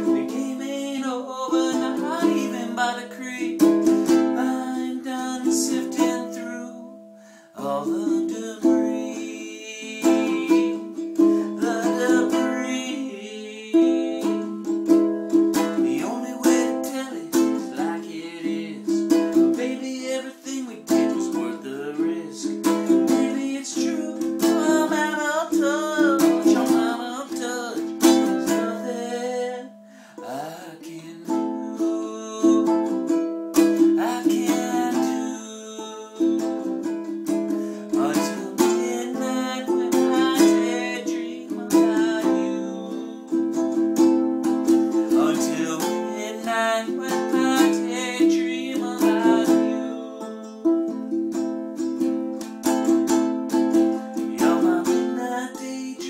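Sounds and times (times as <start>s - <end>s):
ukulele strummed in chords: 0.0s - 56.0s.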